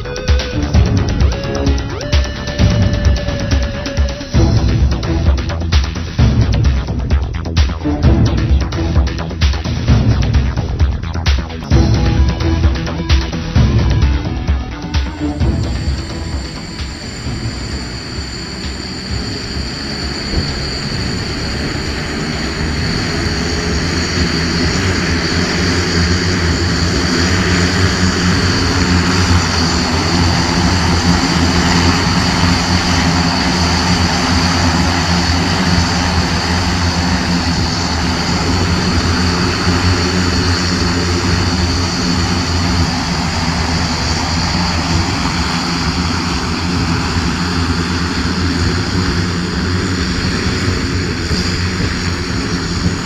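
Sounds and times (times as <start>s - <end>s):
multicopter propellers droning: 0.0s - 53.0s.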